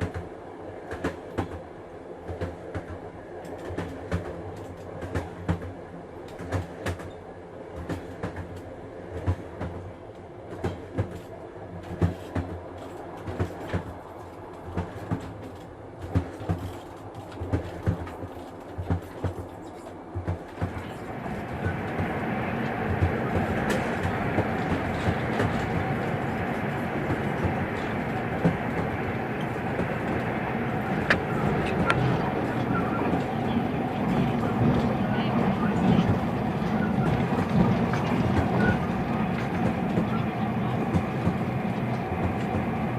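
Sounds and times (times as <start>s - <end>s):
train running rumble: 0.0s - 42.9s
wheels clicking over rail joints: 7.8s - 42.9s.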